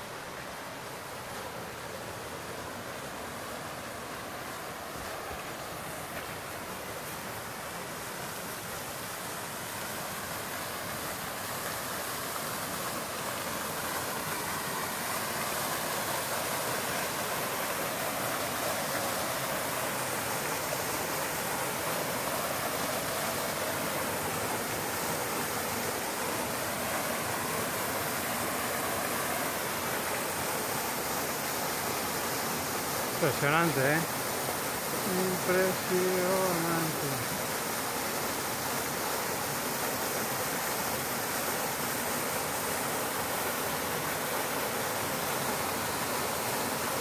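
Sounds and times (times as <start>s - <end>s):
waterfall rushing into pool: 0.0s - 47.0s.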